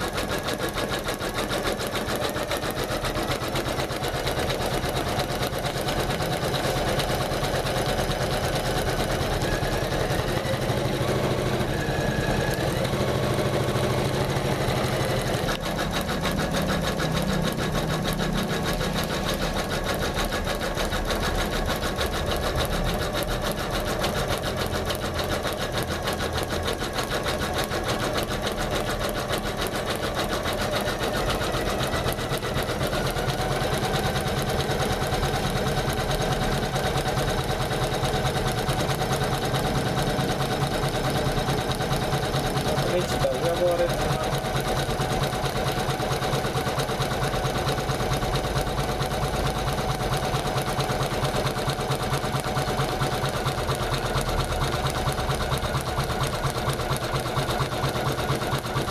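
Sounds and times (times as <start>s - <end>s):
embroidery machine stitching: 0.0s - 58.9s.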